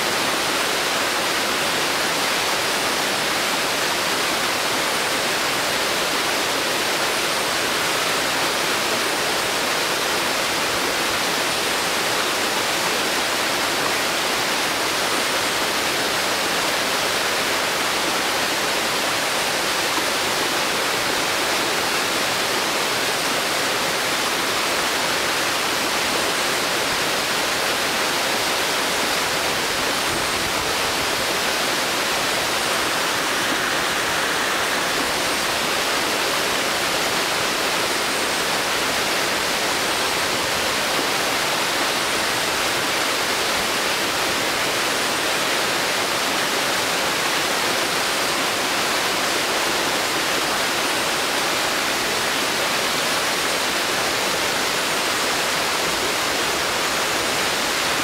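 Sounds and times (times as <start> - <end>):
waterfall splashing into a pool: 0.0 - 58.0.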